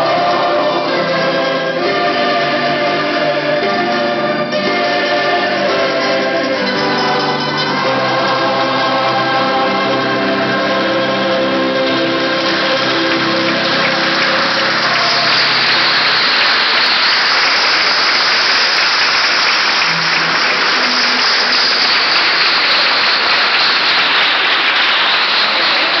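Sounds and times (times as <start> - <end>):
choir singing: 0.0 - 24.2
audience applauding: 0.0 - 26.0.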